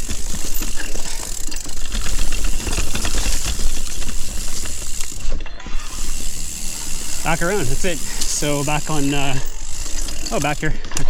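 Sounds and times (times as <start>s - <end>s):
bike rattling over bumps: 0.0s - 11.0s
bike tyres rolling on dirt: 0.0s - 11.0s.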